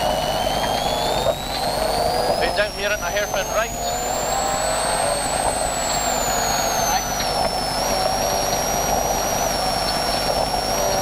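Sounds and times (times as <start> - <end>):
car engine revving: 0.0 - 11.0
high whine: 0.0 - 11.0.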